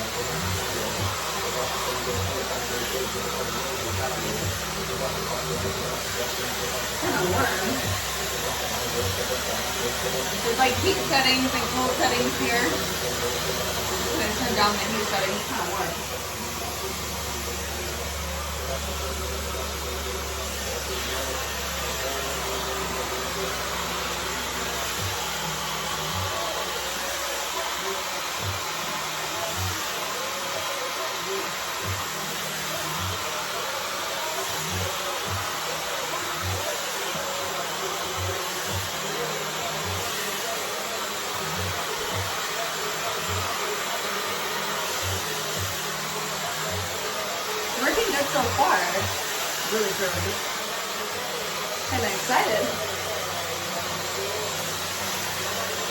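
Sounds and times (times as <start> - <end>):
hair dryer blowing air: 0.0 - 55.9.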